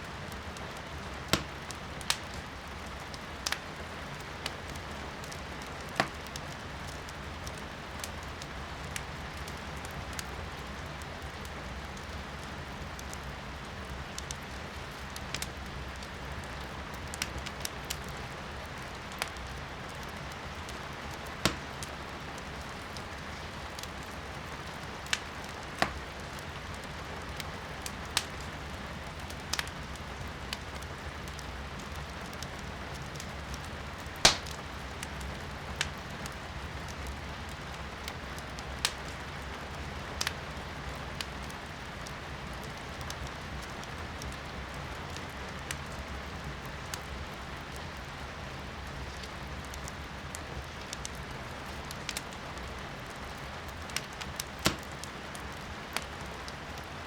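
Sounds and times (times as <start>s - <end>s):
rain heard from indoors: 0.0s - 57.0s
wood fire crackling and popping: 0.0s - 57.0s.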